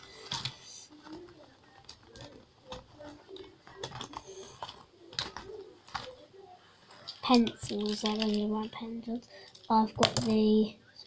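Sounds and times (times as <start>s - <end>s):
pens and pencils clicking: 0.0s - 6.2s, 7.0s - 10.5s.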